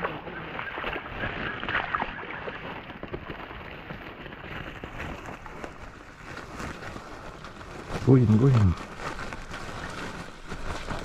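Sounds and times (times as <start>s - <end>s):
legs wading through water: 0.0s - 11.0s.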